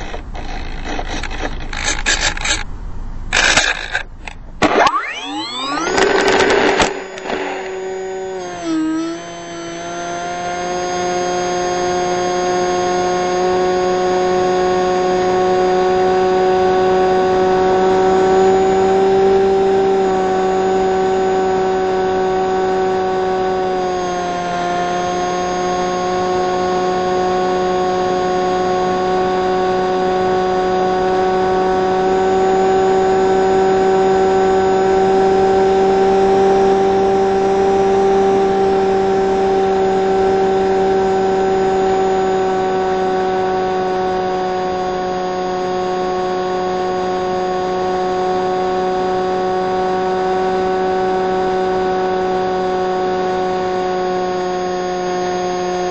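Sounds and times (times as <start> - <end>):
electric motor and propeller whine: 0.0 - 55.9.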